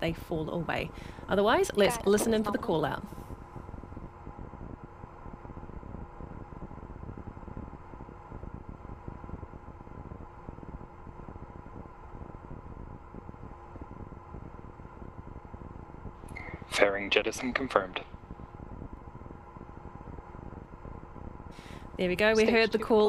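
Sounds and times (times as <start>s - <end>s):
audio loop hiss and hum: 0.0s - 23.0s.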